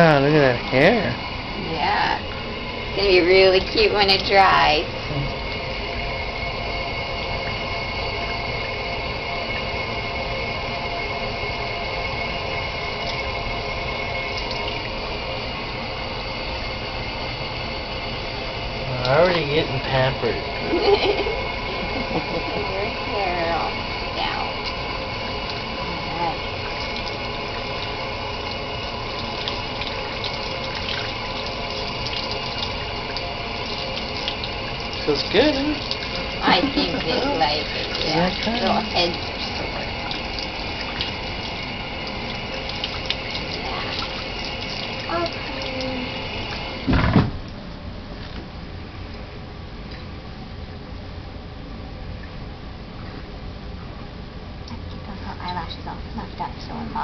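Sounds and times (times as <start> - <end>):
water running from tap: 0.0 - 47.0.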